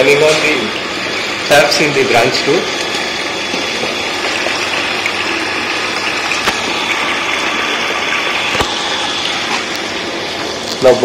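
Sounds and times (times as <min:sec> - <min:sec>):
water pump motor running: 0:00.0 - 0:11.0
water streaming into buckets: 0:00.0 - 0:11.0.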